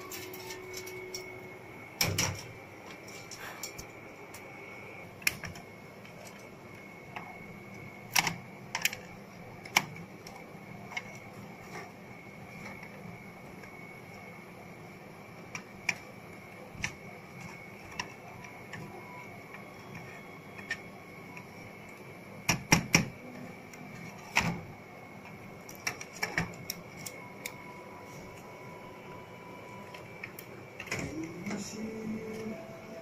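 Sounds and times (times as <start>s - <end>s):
faint steady whine: 0.0s - 33.0s.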